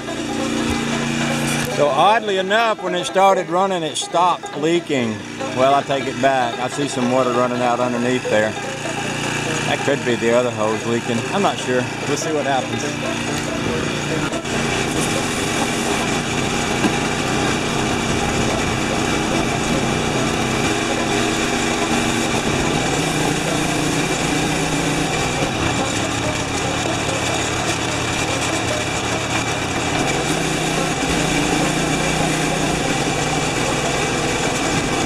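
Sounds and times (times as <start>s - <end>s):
pressure washer engine running: 0.0s - 35.0s.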